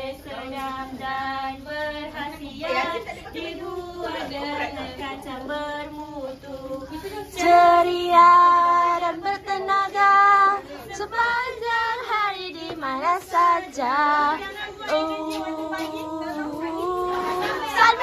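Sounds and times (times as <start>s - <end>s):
young women singing together: 0.0s - 18.0s.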